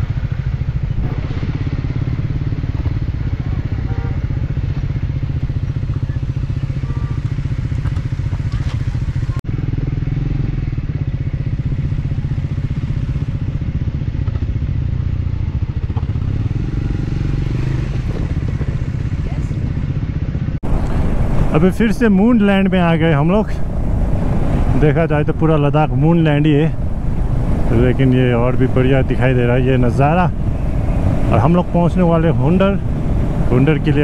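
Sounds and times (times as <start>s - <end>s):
motorcycle engine running: 0.0s - 34.0s
tyres on gravel road: 0.0s - 34.0s.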